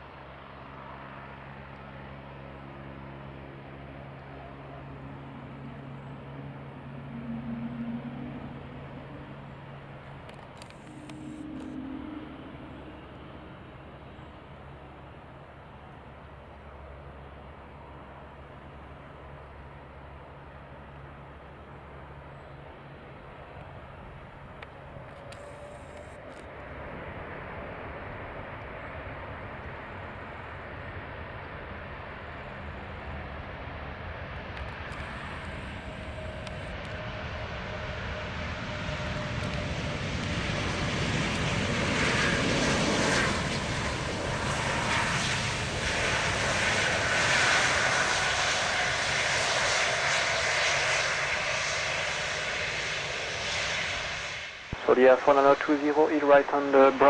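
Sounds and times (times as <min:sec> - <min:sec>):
jet engines on landing: 0:00.0 - 0:57.0.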